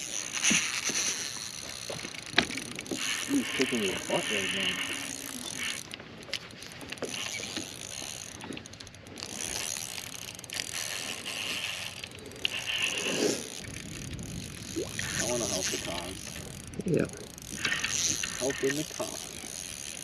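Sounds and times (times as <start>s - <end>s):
fishing reel whirring and clicking: 0.0s - 20.0s.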